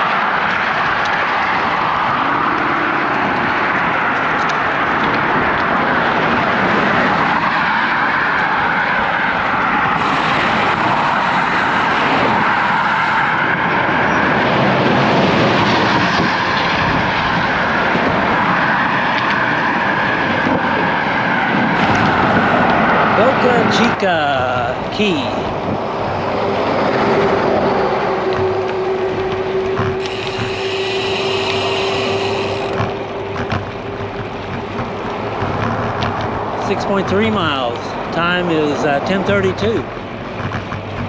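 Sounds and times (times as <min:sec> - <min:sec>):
highway traffic: 0:00.0 - 0:41.0
road noise: 0:00.0 - 0:41.0
rushing wind: 0:00.0 - 0:41.0.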